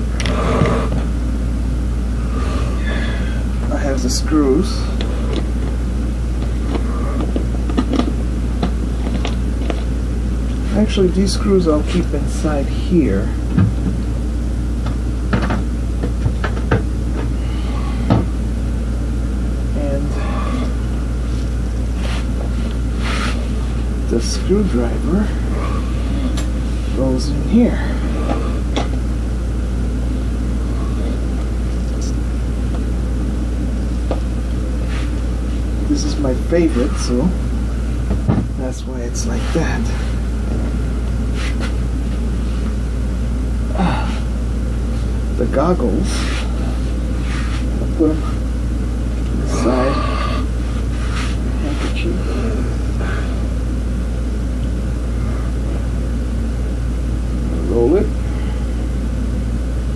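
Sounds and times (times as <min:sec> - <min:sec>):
low room hum: 0:00.0 - 0:59.9.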